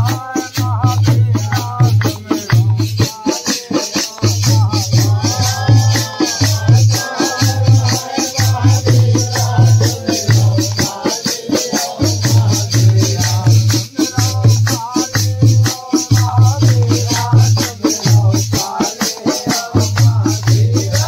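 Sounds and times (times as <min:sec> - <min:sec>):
jingling metal hand percussion: 0:00.0 - 0:21.0
men singing: 0:00.0 - 0:21.0.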